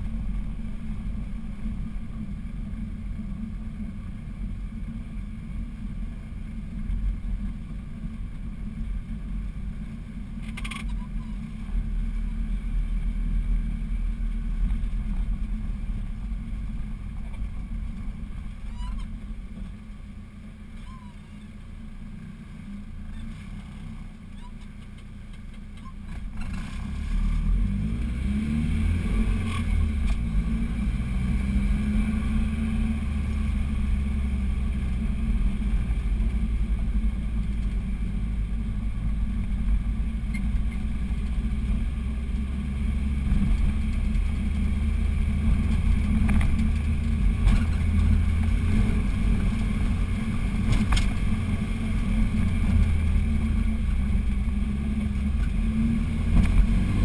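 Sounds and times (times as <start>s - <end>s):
road noise: 0.0s - 57.0s
vehicle engine droning: 0.0s - 57.0s.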